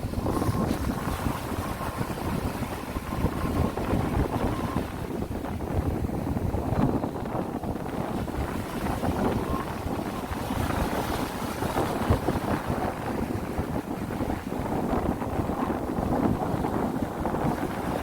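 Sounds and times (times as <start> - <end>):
wind gusting on microphone: 0.0 - 18.0.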